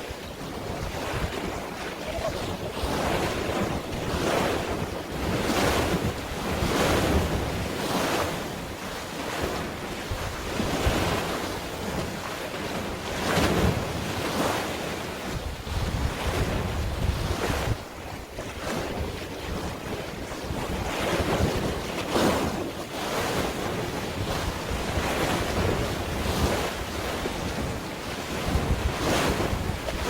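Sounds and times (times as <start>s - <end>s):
sea waves: 0.0s - 30.0s
wind buffeting microphone: 0.0s - 30.0s.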